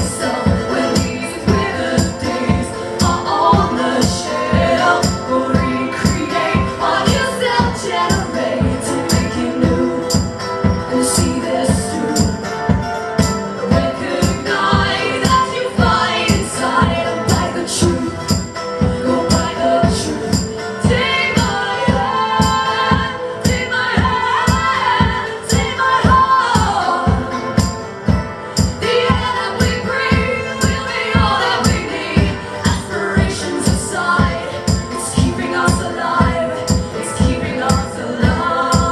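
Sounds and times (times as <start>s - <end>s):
person singing: 0.0s - 27.9s, 28.6s - 38.9s
drum beat: 0.0s - 38.9s
guitar: 0.0s - 38.9s
tambourine: 0.0s - 38.9s.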